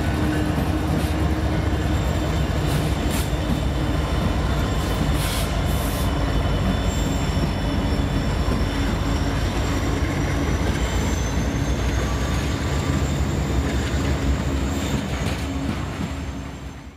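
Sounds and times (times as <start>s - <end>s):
diesel locomotives passing: 0.0s - 16.9s
high wheel squeal: 0.0s - 16.9s
train wheels rumbling on rail: 0.0s - 16.9s.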